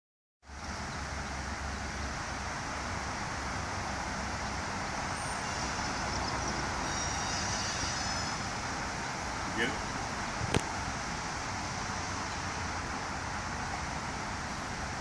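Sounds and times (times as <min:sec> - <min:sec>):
outdoor background noise: 0:00.4 - 0:15.0.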